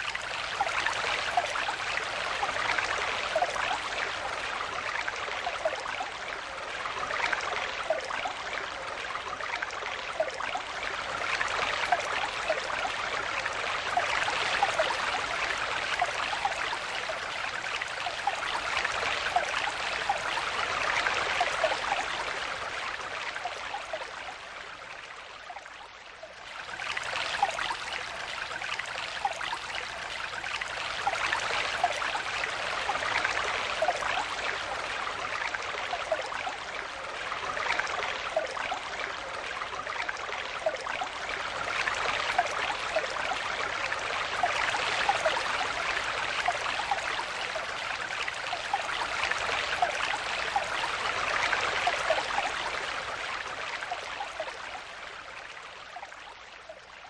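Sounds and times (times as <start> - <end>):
stream flowing over stones: 0.0 - 57.0.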